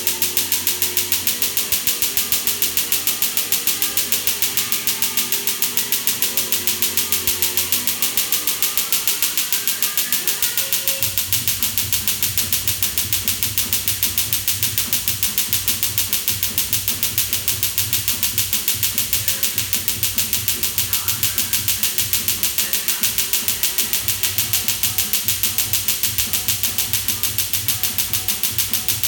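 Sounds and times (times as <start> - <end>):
laser snapping pulses: 0.0 - 29.0.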